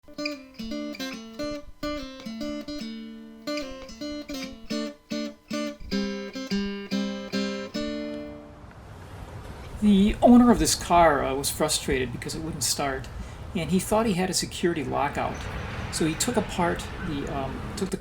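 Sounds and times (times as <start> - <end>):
acoustic guitar picking: 0.0 - 8.8, 9.4 - 18.0.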